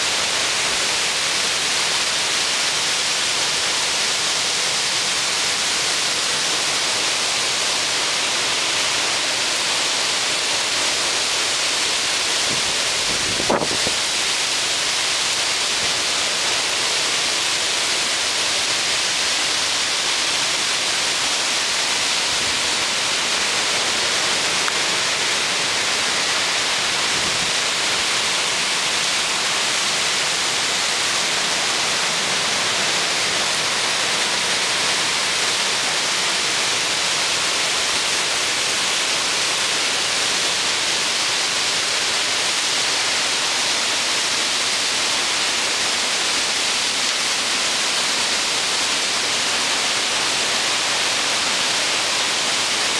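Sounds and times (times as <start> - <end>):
wind blowing through trees: 0.0 - 52.9.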